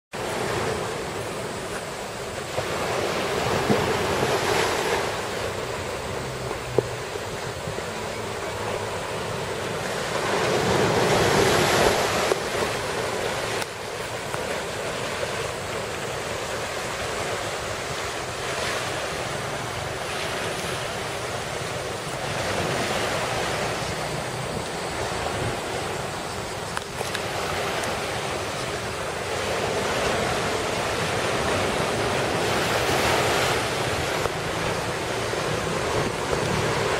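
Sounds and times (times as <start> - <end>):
wind blowing: 0.1 - 36.9
waves roaring: 0.2 - 36.9.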